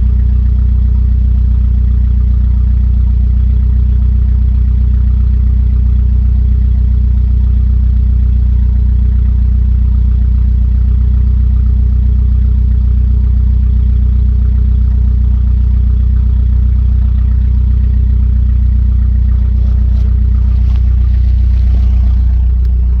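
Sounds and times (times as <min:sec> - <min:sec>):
car engine idling loudly: 0:00.0 - 0:23.0.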